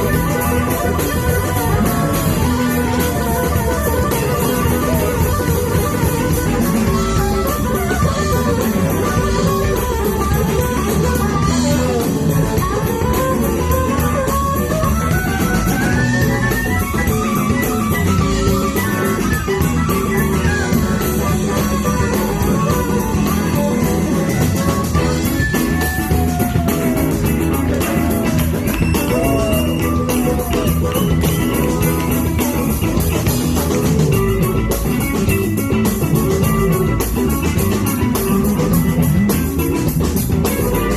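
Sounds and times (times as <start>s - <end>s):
blues band playing: 0.0s - 40.9s
lead line with bent notes: 0.0s - 40.9s.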